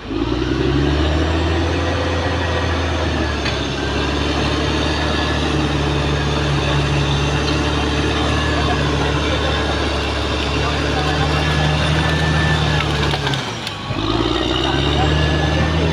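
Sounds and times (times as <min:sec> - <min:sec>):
bulldozer diesel engine drone: 0:00.0 - 0:15.9.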